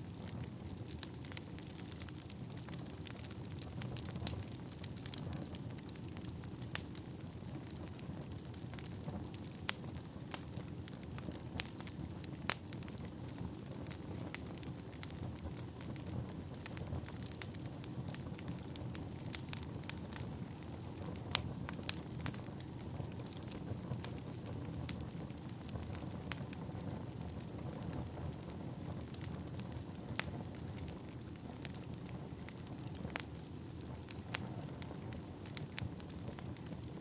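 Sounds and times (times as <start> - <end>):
firewood crackling and popping: 0.0 - 37.0
low rumble of flames: 0.0 - 37.0.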